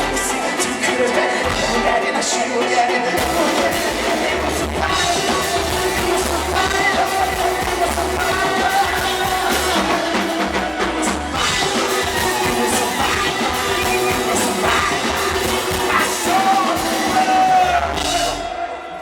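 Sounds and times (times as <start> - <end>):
live rock band playing: 0.0 - 18.7.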